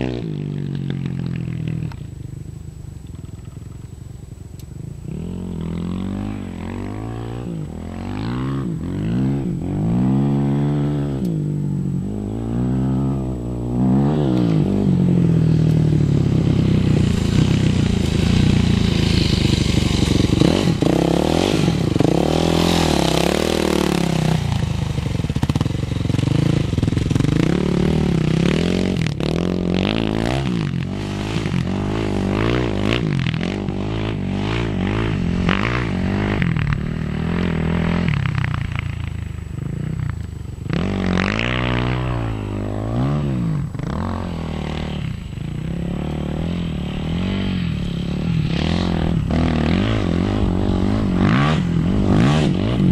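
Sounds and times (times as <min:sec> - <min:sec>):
dirt bike engine revving: 0:05.0 - 0:52.9.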